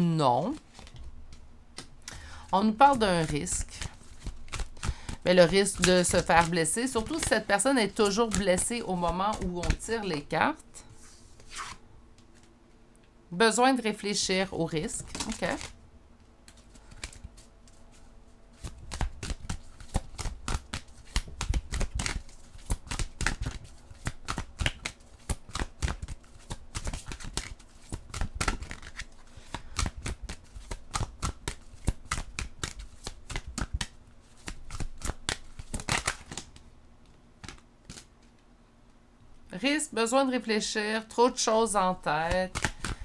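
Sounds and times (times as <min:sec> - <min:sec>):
cards being shuffled by hand: 0:00.4 - 0:12.6, 0:14.8 - 0:15.8, 0:16.4 - 0:38.4, 0:42.1 - 0:43.0.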